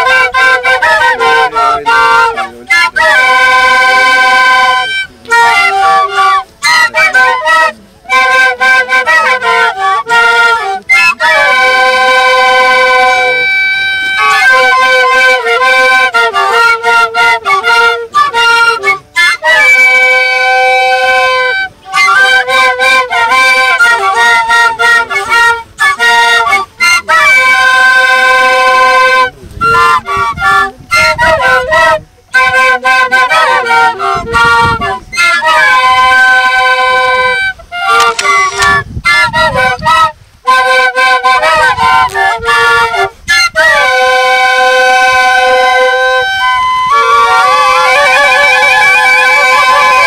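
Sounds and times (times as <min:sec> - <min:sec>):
wind instrument slow melody: 0:00.0 - 0:50.0.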